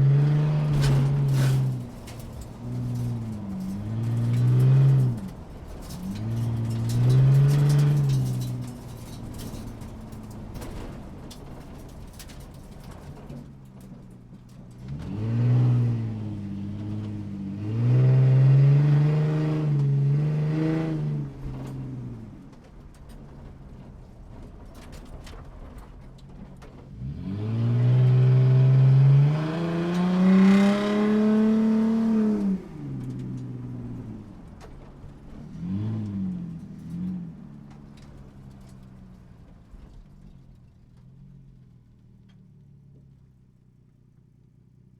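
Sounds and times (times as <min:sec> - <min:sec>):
motorcycle engine idling and revving: 0:00.0 - 0:22.7, 0:26.3 - 0:44.9.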